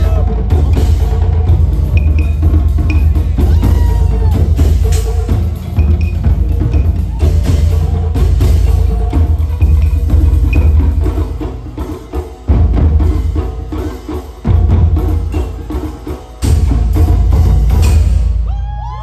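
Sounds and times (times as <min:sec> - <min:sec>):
taiko drumming: 0:00.0 - 0:19.0.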